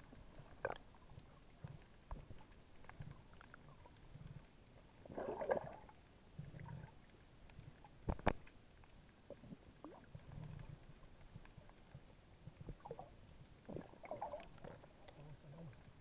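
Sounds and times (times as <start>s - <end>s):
underwater gurgling and rumbling: 0.0s - 16.0s.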